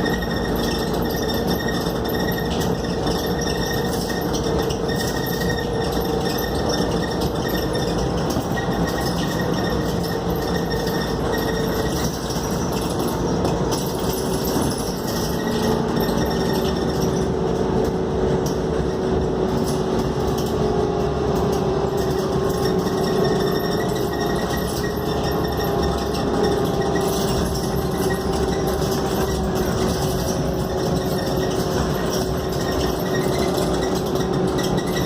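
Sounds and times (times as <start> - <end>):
bus engine and road noise: 0.0 - 35.0.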